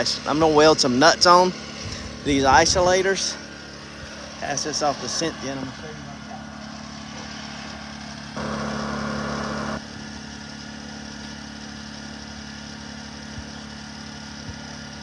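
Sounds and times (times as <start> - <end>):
generator running: 0.0 - 15.0.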